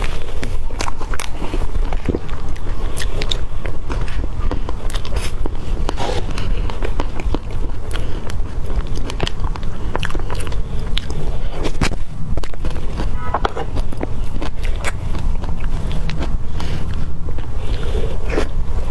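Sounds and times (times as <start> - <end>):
wet chewing and mouth clicks: 0.0 - 18.9.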